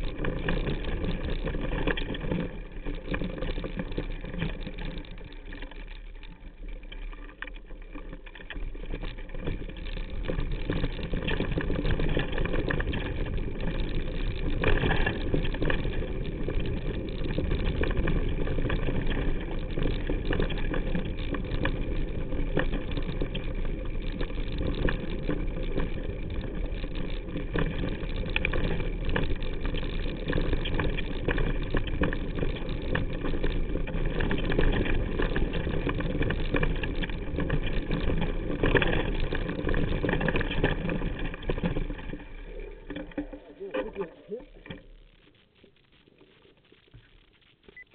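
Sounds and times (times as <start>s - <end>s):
bike rattling over bumps: 0.0s - 45.6s.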